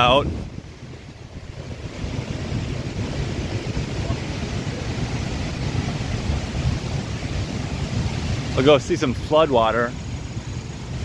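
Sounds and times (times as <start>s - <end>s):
steady rushing noise: 0.0s - 11.0s
wind buffeting microphone: 0.0s - 11.0s.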